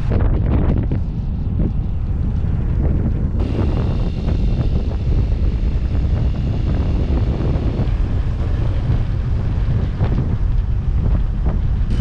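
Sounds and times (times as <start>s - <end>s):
vehicle running noise: 0.0s - 12.0s
wind buffeting microphone: 0.0s - 12.0s.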